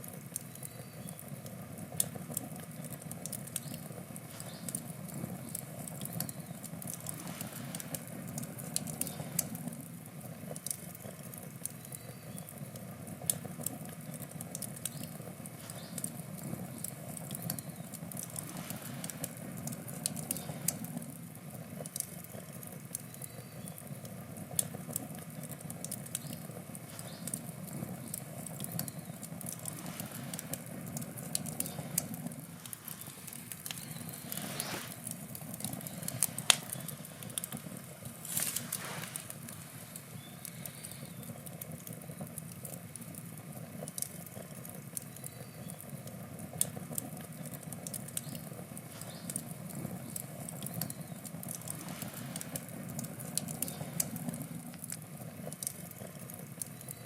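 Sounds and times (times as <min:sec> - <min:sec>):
burning wood crackling and popping: 0:00.0 - 0:57.0
flame low rumble: 0:00.0 - 0:57.0.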